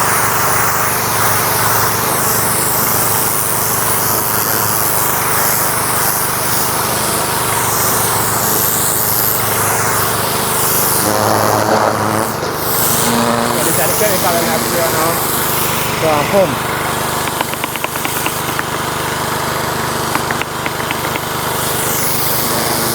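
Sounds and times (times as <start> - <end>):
pressure washer engine drone: 0.0 - 22.9
water spray hissing: 0.0 - 22.9.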